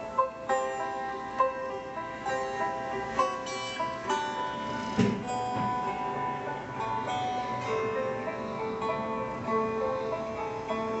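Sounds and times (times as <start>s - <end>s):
plucked string music: 0.0s - 11.0s.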